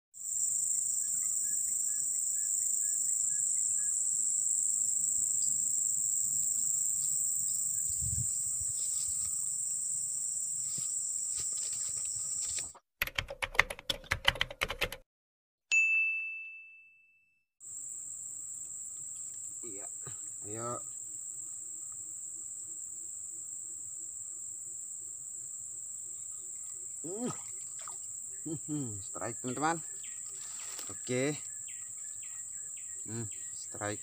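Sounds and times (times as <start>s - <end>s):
high-pitched insect drone: 0.2s - 12.7s, 17.6s - 34.0s.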